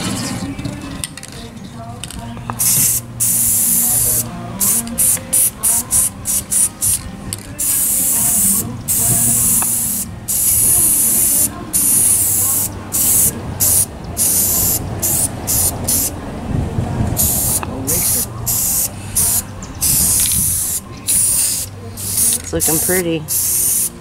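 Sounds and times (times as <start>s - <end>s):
aerosol spray can hissing: 2.6s - 7.0s, 7.6s - 16.1s, 17.2s - 24.0s.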